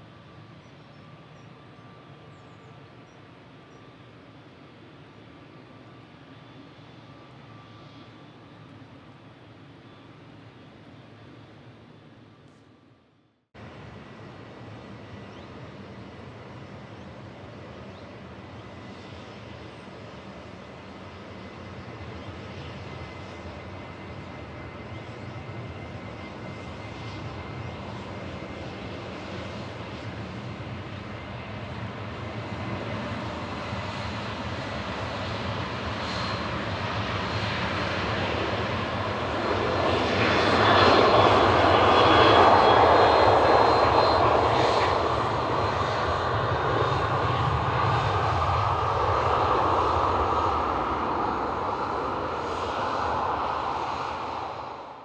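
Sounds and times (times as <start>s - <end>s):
jet engines passing by: 0.0s - 13.0s, 13.6s - 55.0s.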